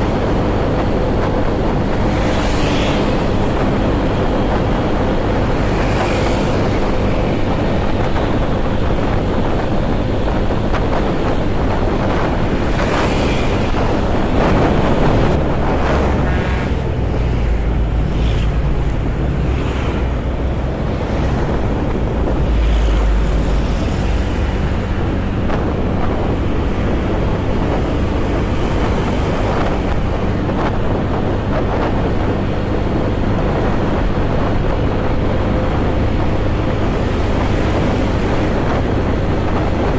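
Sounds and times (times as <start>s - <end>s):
motorcycle engine hum: 0.0s - 39.9s
wind buffeting microphone: 0.0s - 39.9s.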